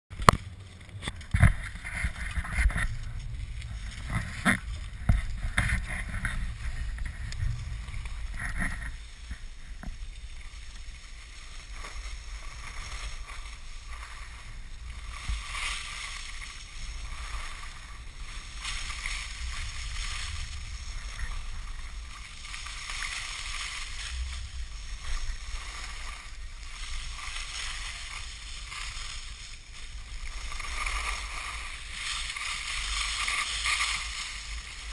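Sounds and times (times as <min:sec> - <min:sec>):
skis scraping over snow: 0:00.1 - 0:34.9
wind rumbling on microphone: 0:00.1 - 0:34.9.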